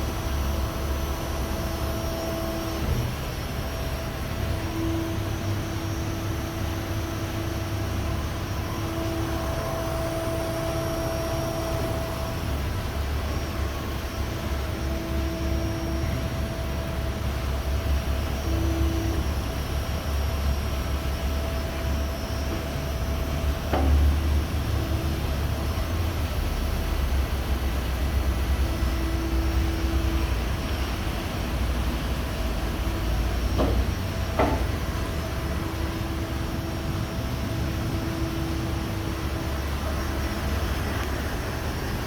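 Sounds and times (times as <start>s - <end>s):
machine hum and rumble: 0.0s - 42.0s.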